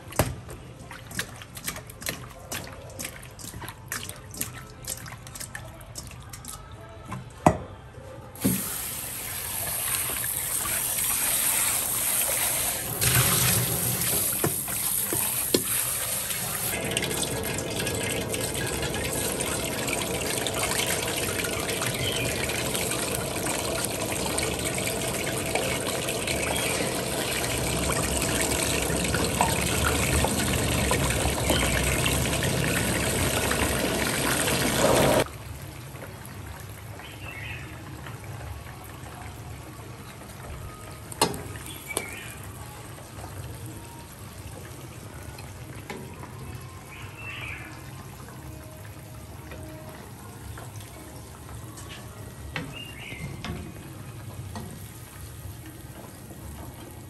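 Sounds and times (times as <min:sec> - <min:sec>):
fish frying in hot oil: 0:08.4 - 0:57.0.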